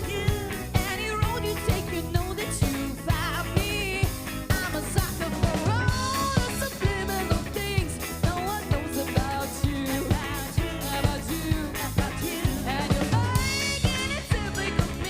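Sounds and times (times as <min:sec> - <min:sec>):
bending melodic lead line: 0:00.0 - 0:15.0
drum kit steady beat: 0:00.0 - 0:15.0
funk band playing live: 0:00.0 - 0:15.0.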